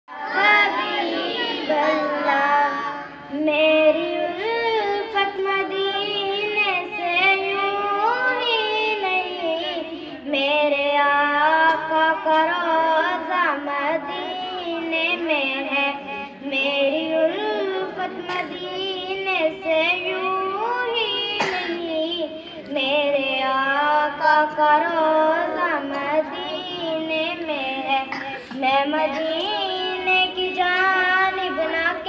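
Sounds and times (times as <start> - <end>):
girl singing unaccompanied: 0.1 - 32.0.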